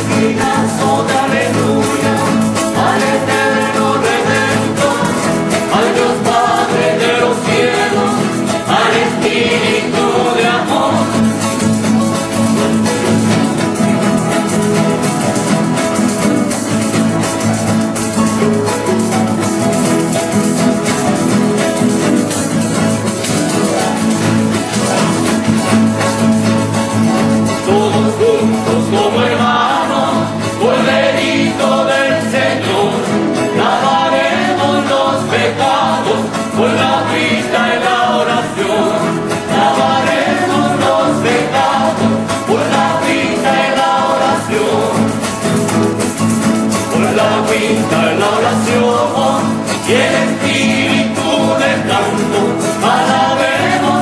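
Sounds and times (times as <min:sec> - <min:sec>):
acoustic guitars and harp: 0:00.0 - 0:54.0
group of voices singing: 0:00.0 - 0:54.0.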